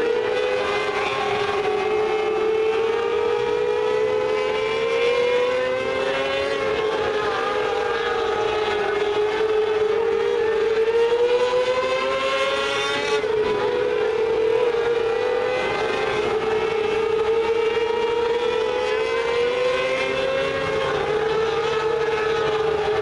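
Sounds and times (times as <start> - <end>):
racing car engines whining: 0.0 - 23.0.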